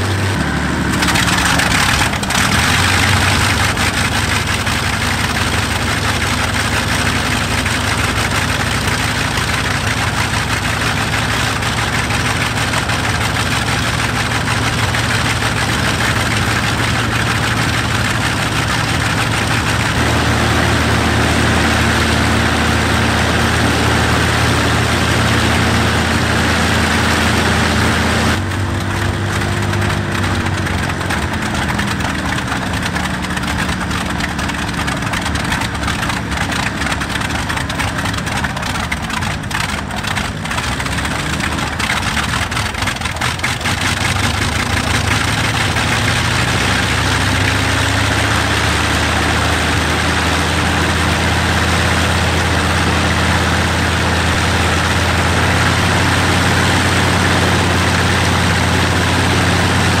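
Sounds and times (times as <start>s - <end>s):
aero engines running: 0.0s - 60.0s.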